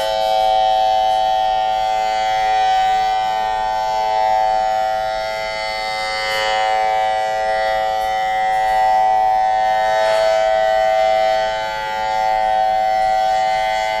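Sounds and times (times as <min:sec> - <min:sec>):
warning siren steady tone: 0:00.0 - 0:14.0.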